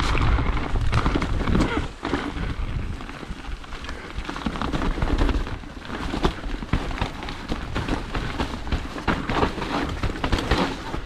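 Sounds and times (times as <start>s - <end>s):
bike clicks and rattles: 0.0s - 11.0s
tyres running through mud: 0.0s - 11.0s.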